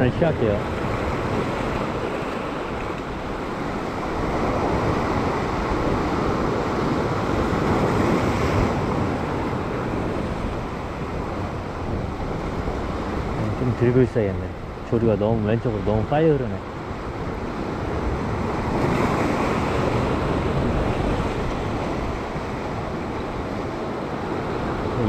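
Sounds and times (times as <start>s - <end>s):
sea surf against rocks: 0.0s - 25.0s.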